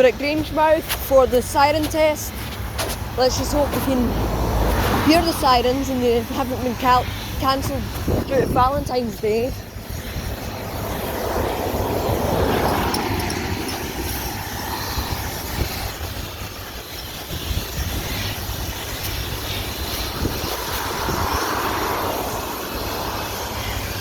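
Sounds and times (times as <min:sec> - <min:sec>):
low traffic rumble: 0:00.0 - 0:24.0
vehicles passing: 0:00.0 - 0:24.0.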